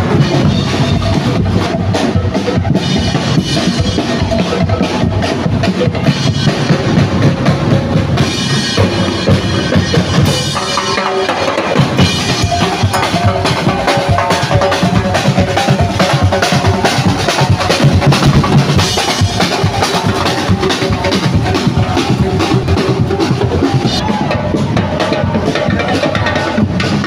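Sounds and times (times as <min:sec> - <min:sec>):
music with kick and snare beat: 0:00.0 - 0:27.0.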